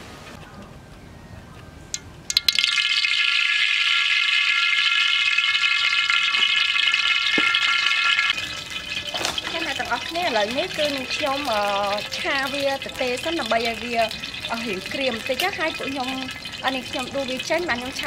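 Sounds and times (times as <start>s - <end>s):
oil sizzling in a wok: 2.3s - 18.0s.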